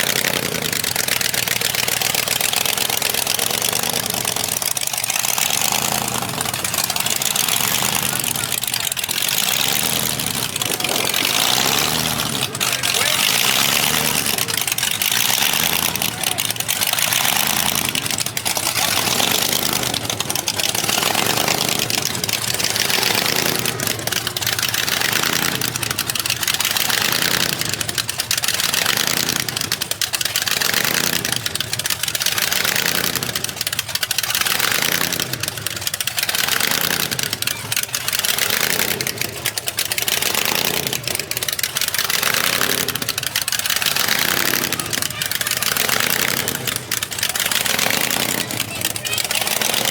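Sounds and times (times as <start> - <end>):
vehicle engine running loudly: 0.0 - 49.9.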